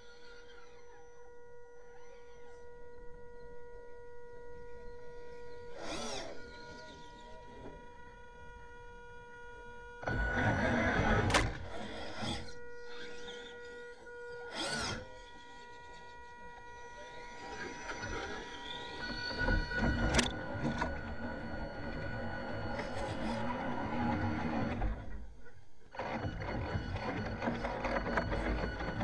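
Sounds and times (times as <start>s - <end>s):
rc truck motor whining: 0.0s - 29.0s.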